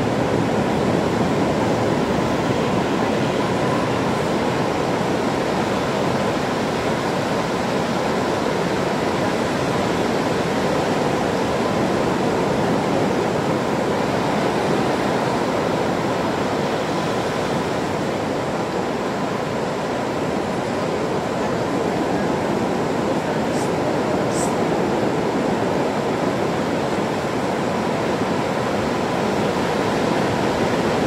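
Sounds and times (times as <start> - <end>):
steady rushing noise: 0.0 - 31.0.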